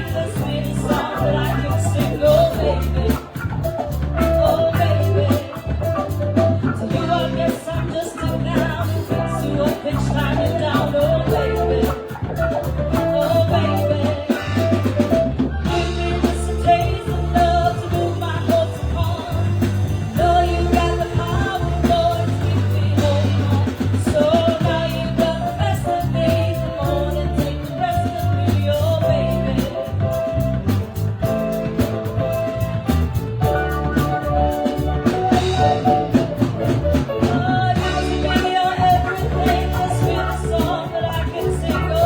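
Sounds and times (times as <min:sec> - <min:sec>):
drum kit: 0:00.0 - 0:42.0
live band playing: 0:00.0 - 0:42.0
person singing: 0:00.0 - 0:42.0.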